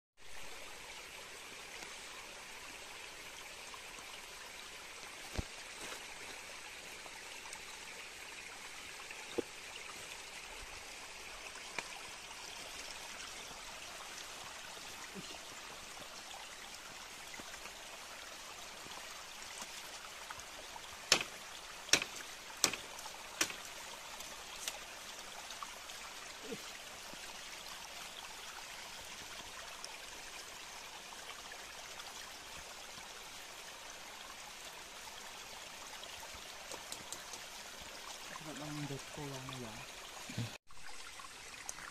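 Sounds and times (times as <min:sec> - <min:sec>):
trickle of running water: 0:00.2 - 0:41.9.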